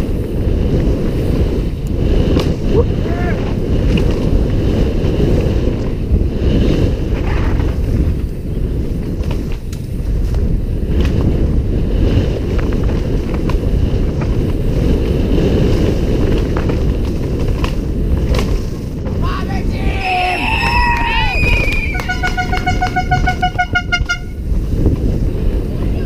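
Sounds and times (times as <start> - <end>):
bike rattling over rough ground: 0.0 - 19.3, 20.6 - 26.0
wind buffeting microphone: 0.0 - 26.0.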